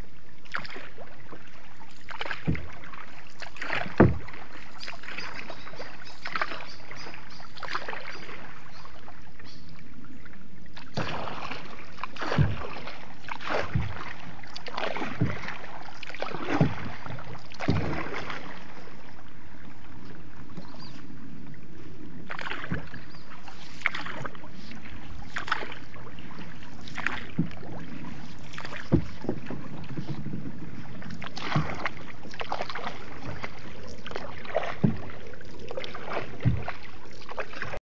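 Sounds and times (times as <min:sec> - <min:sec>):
paddle splashing through water: 0:00.0 - 0:37.8.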